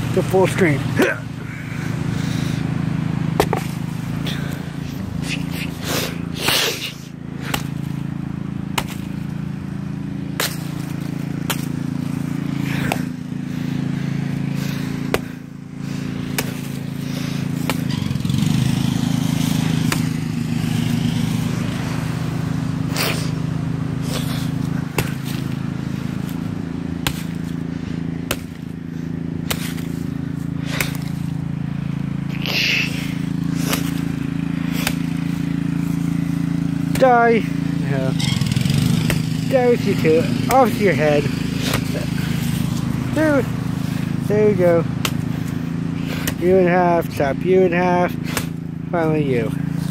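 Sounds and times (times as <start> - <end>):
small engine running: 0.0 - 49.9.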